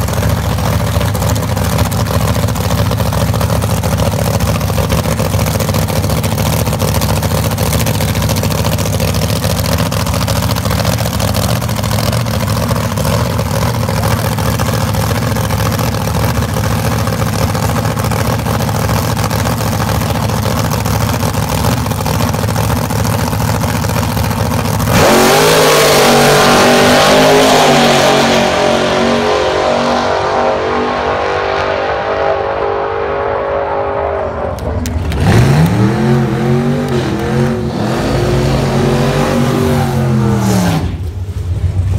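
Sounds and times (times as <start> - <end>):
drag car engine accelerating: 0.0 - 41.9.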